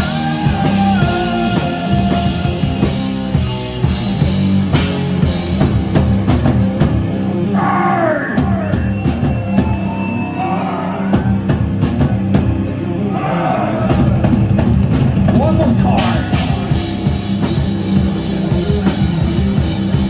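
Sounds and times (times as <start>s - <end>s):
live rock band playing: 0.0s - 13.1s, 13.8s - 20.0s
heavy bass line: 0.0s - 20.0s
pounding drum kit: 0.0s - 20.0s.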